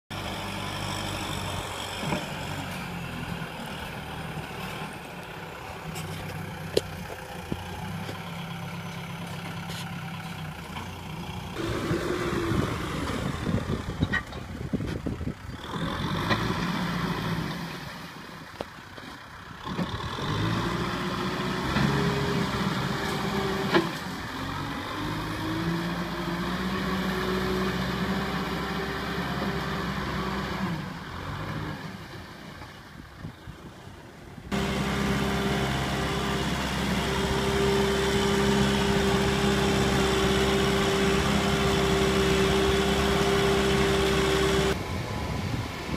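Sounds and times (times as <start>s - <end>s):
tractor engine revving: 0.1s - 18.6s, 19.4s - 32.5s, 34.5s - 45.9s.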